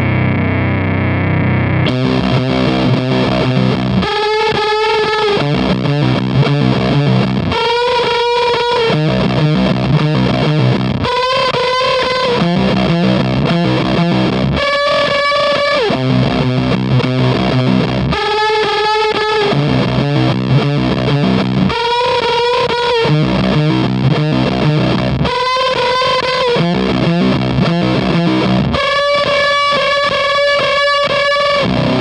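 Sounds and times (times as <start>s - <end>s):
distorted electric guitar: 0.0s - 32.0s.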